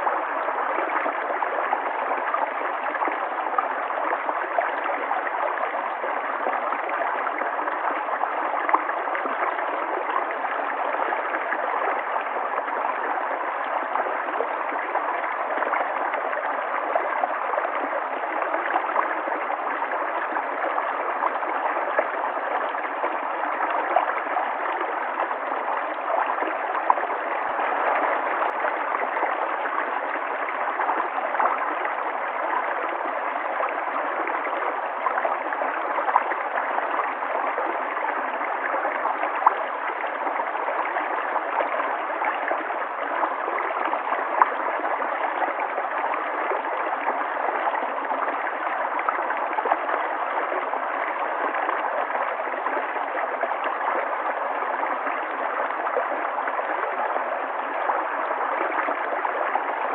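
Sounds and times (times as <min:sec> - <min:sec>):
water gurgles: 0:00.0 - 0:59.9.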